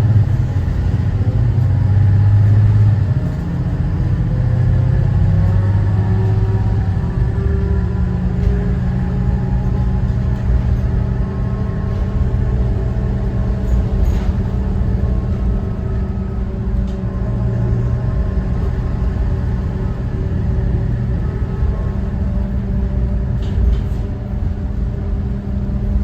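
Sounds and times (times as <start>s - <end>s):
diesel bus engine rumbling: 0.0s - 26.0s
road noise: 0.0s - 26.0s.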